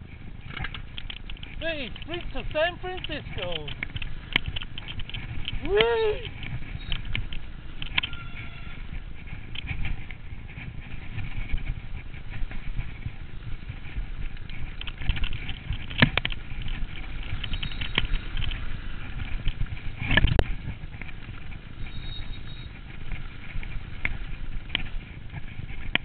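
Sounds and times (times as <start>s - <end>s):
bike rattling and clicking: 0.0s - 26.0s
wind and tyre rumble: 0.0s - 26.0s.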